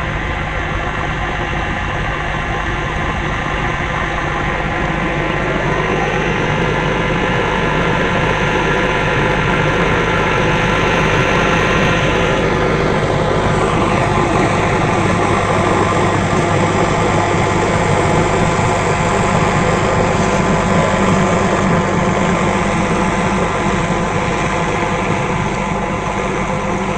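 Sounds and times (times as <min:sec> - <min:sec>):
tractor diesel engine running: 0:00.0 - 0:26.9.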